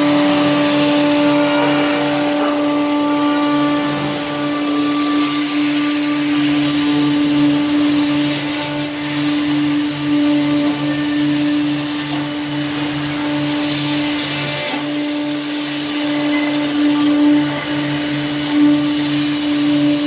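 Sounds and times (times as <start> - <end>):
electric saw motor running: 0.0 - 20.0.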